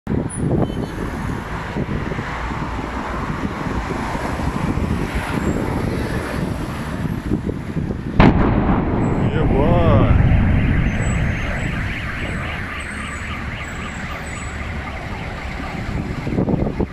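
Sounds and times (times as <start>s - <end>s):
road traffic passing: 0.1s - 16.9s
wind buffeting microphone: 0.1s - 16.9s.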